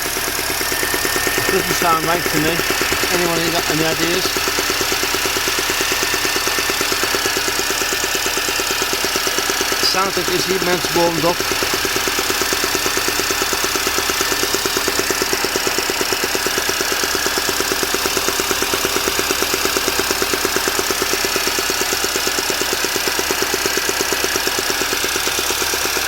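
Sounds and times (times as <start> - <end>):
car engine idling: 0.0 - 26.0
rhythmic popping from engine: 0.0 - 26.0.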